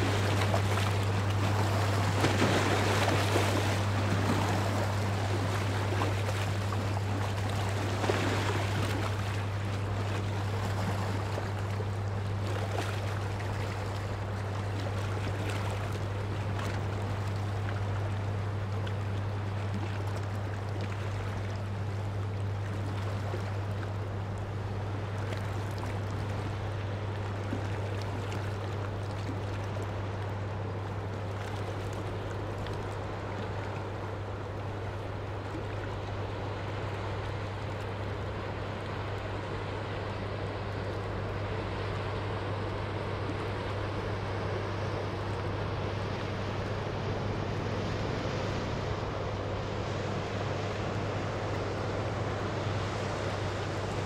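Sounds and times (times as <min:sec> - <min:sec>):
ship engine drone: 0:00.0 - 0:54.0.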